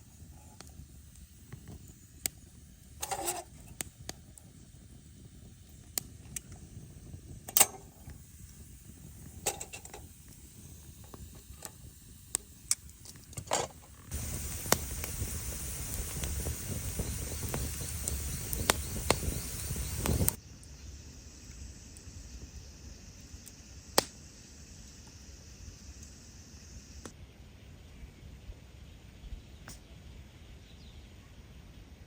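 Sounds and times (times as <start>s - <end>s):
steady hiss: 0.0s - 27.2s.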